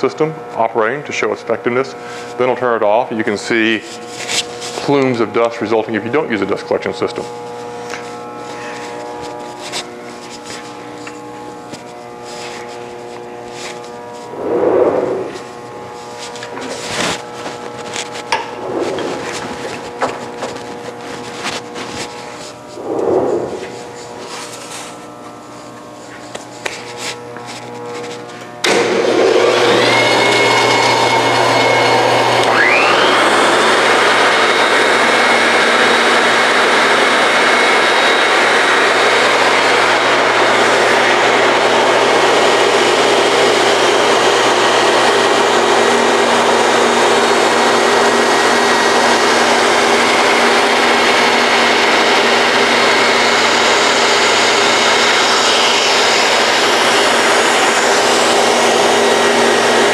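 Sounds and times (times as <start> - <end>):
dust collector motor running: 0.0 - 59.9
bandsaw running: 1.7 - 59.9.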